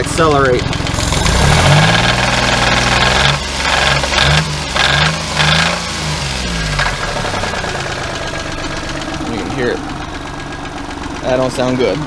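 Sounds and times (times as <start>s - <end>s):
engine knocking: 0.0s - 5.8s, 6.4s - 12.0s
car engine revving: 0.0s - 11.8s.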